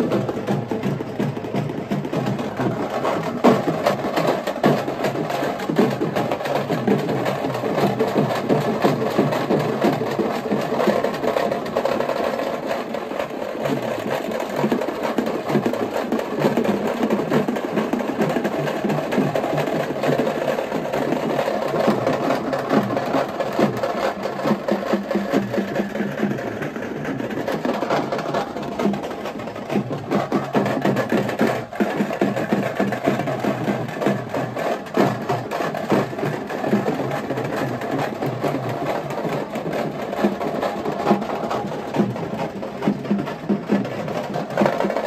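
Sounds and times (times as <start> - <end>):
rapid drumming: 0.0 - 45.0.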